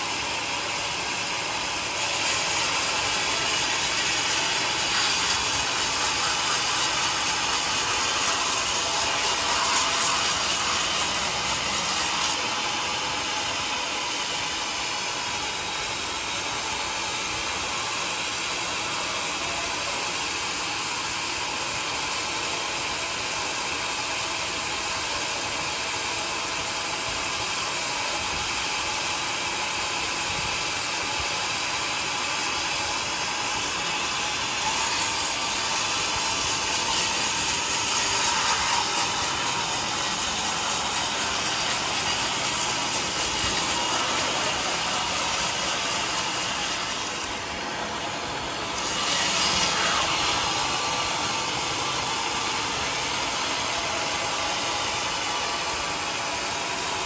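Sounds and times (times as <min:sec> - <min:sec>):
band sawmill sawing log: 0:00.0 - 0:57.0.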